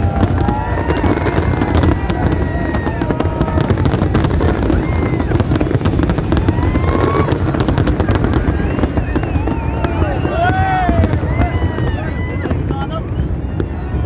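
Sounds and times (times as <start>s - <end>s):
fireworks bangs and crackles: 0.0s - 14.0s
whistling fireworks: 0.0s - 14.0s.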